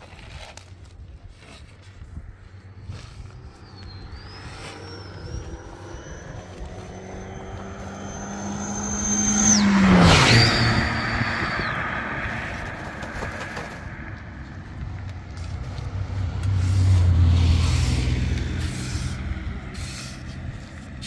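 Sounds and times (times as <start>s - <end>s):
vehicle driving past: 2.3s - 21.0s.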